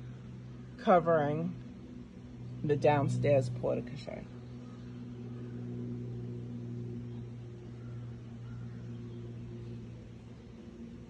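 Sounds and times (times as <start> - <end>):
motor or fan humming: 0.0 - 11.0.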